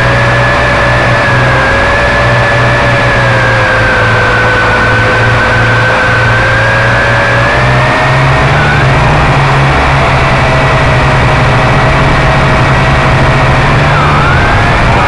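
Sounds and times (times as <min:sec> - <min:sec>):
drone propellers whining: 0:00.0 - 0:15.0
low hum: 0:00.0 - 0:15.0.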